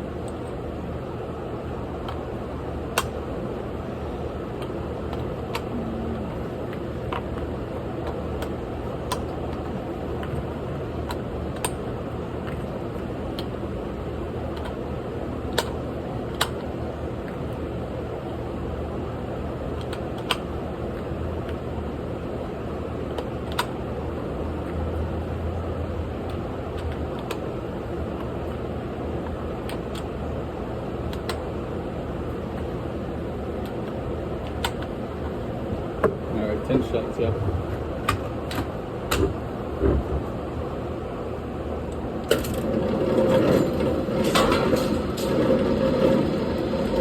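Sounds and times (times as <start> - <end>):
fan-like hum: 0.0 - 47.0.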